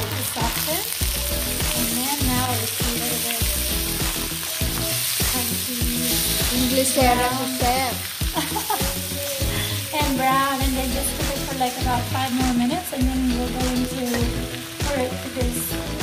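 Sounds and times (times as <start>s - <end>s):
background music with a beat: 0.0s - 16.0s
food sizzling in a wok: 0.0s - 16.0s.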